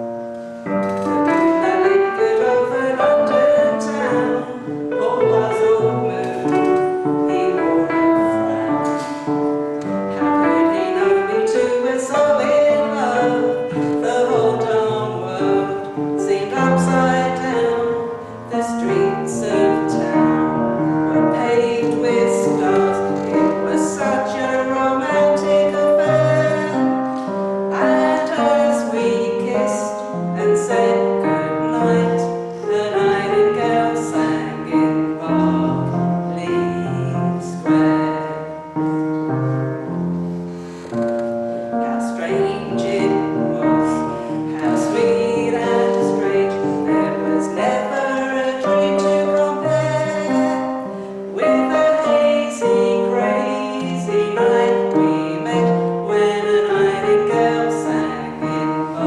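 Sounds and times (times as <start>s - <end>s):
piano accompaniment: 0.0s - 59.0s
woman singing a ballad: 1.4s - 9.3s, 10.1s - 38.6s, 41.8s - 59.0s.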